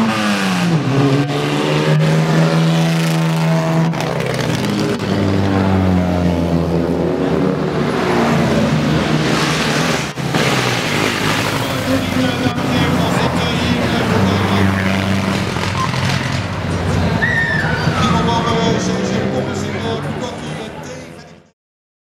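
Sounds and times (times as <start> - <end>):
sports car engine driving by: 0.0 - 21.2.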